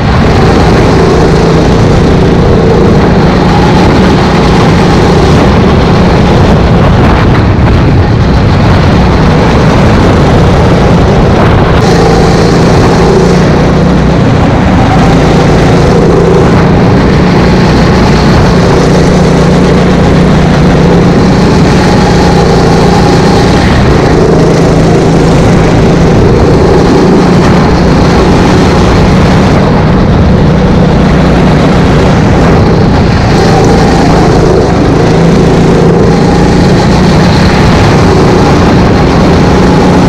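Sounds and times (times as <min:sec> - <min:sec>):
go-kart engine running hard: 0:00.0 - 0:40.0.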